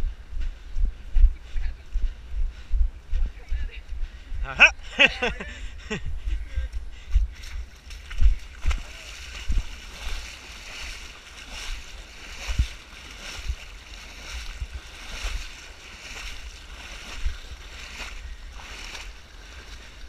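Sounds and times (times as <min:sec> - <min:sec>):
people wading through shallow water: 0:00.0 - 0:20.0.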